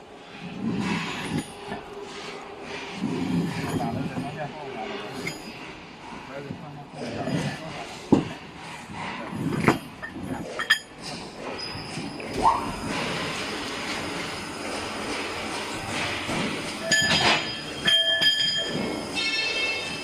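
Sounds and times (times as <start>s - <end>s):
heavy machinery running: 0.0s - 20.0s.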